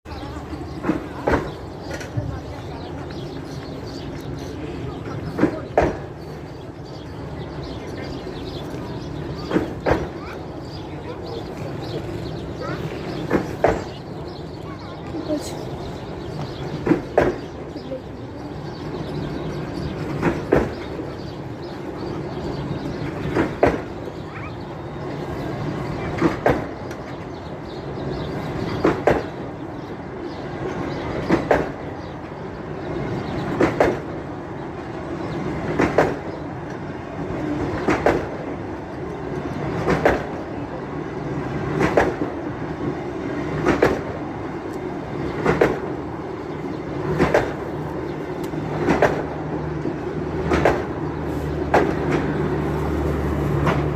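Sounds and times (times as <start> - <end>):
train rumble: 0.0 - 53.9
wheels clacking over rail joints: 0.1 - 53.9.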